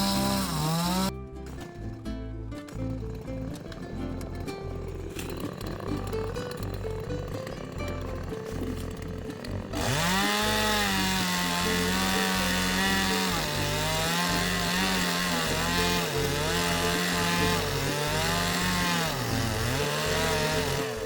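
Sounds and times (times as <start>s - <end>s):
chainsaw engine revving: 0.0s - 2.0s, 2.6s - 21.0s.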